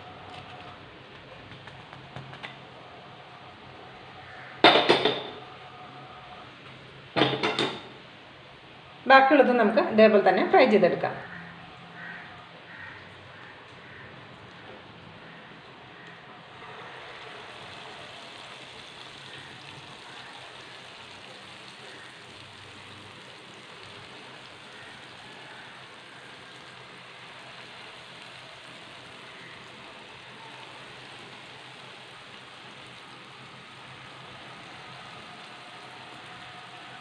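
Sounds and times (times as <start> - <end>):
hot oil sizzling: 0.0 - 8.7, 12.0 - 37.0.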